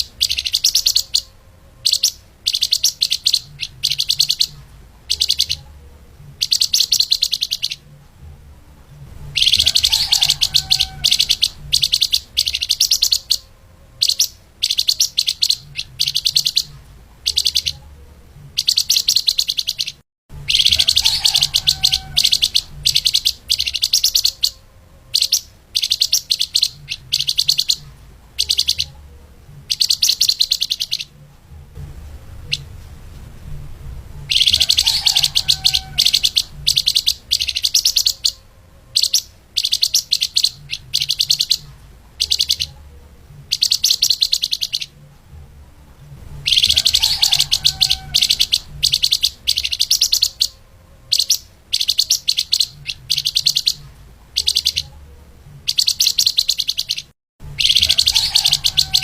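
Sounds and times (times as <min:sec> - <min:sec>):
songbird singing high trills: 0:00.0 - 0:05.7, 0:06.4 - 0:07.9, 0:09.3 - 0:17.9, 0:18.6 - 0:27.8, 0:28.4 - 0:29.0, 0:29.7 - 0:31.1, 0:34.3 - 0:42.8, 0:43.5 - 0:45.0, 0:46.4 - 0:55.0, 0:55.7 - 0:59.0
faint low hum: 0:00.0 - 0:59.0.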